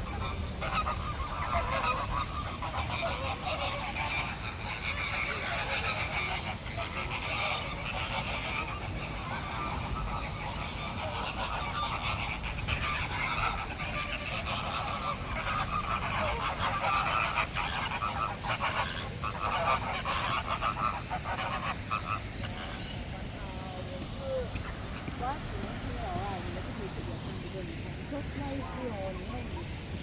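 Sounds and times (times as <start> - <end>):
waterbirds honking: 0.0 - 29.9.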